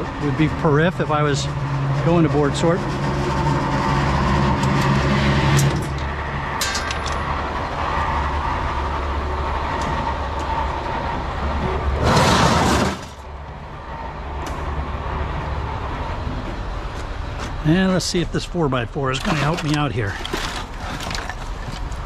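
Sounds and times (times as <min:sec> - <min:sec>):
low engine-like hum: 0:00.0 - 0:22.0.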